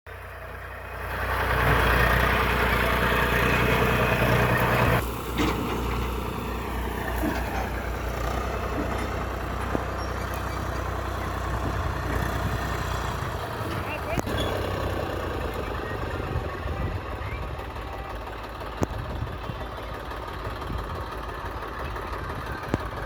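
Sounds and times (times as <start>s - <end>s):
diesel engine working under load: 0.1s - 23.0s.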